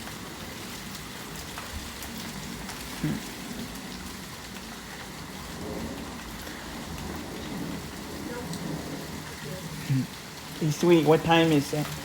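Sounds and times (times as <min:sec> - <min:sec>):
hailstones ticking: 0:00.0 - 0:12.0
rain hissing: 0:00.0 - 0:12.0.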